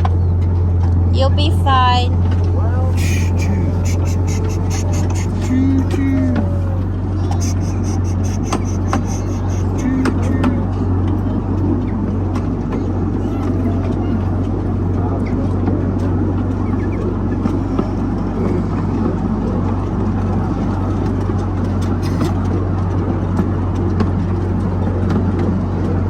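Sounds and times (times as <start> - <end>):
park train engine drone: 0.0 - 26.0.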